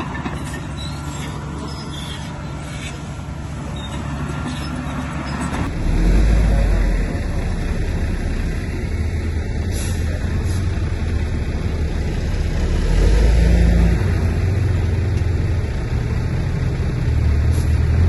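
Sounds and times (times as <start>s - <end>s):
diesel earthmoving machinery running: 0.0s - 18.0s.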